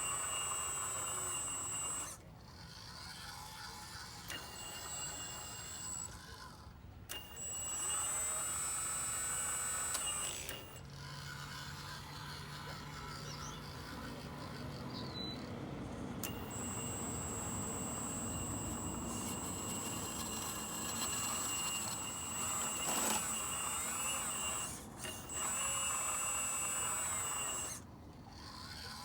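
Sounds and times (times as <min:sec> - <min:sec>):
hydraulic pump motor whining: 0:00.0 - 0:29.0
low mechanical hum: 0:00.0 - 0:29.0.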